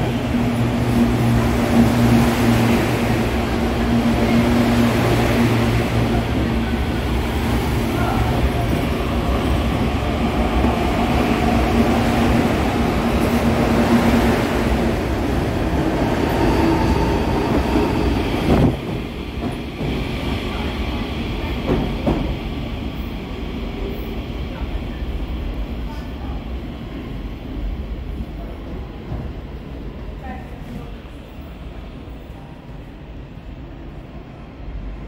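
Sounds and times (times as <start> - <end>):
train hum: 0.0 - 35.0.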